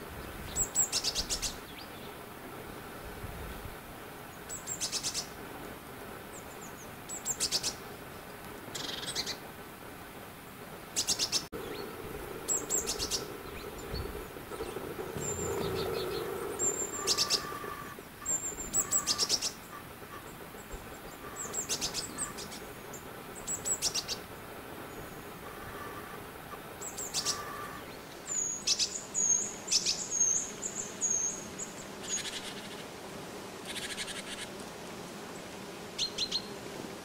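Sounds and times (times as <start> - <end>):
small birds calling: 0.0 - 2.3, 4.2 - 5.4, 6.2 - 9.5, 10.4 - 32.9, 33.6 - 34.6, 35.3 - 36.6.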